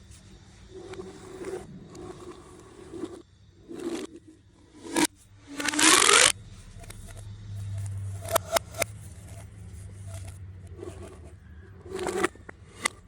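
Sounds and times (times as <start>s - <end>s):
plastic pipe toys scraping: 0.7s - 6.4s, 8.2s - 13.0s.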